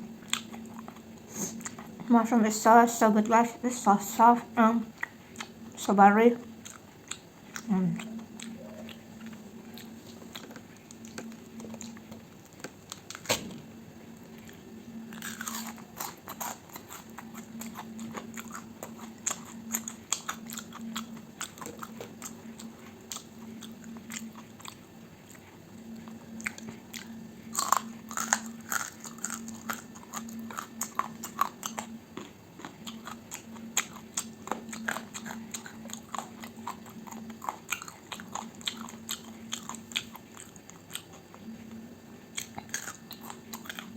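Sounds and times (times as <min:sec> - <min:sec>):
person chewing crunchy food: 0:00.0 - 0:02.1, 0:04.9 - 0:05.8, 0:06.4 - 0:43.9.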